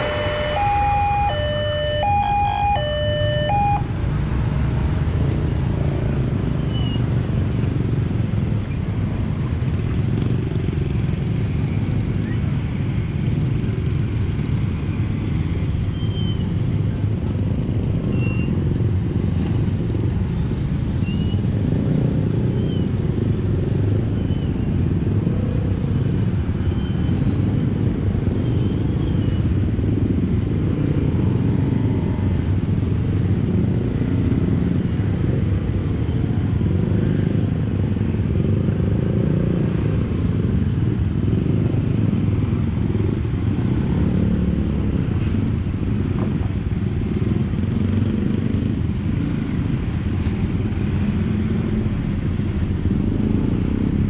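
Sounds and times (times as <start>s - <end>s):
car and truck engines: 0.0s - 54.0s
motorcycle and scooter engines: 0.0s - 54.0s.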